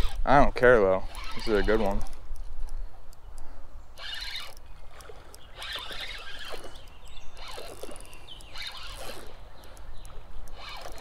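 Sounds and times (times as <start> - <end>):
fishing reel cranking: 0.0 - 2.2, 4.0 - 11.0.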